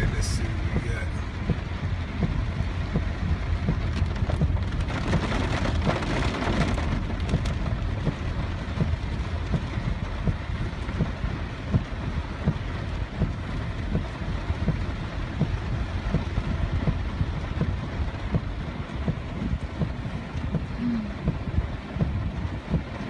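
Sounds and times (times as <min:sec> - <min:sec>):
rain pattering on a car: 0:00.0 - 0:23.0
vehicle driving rumble: 0:00.0 - 0:23.0.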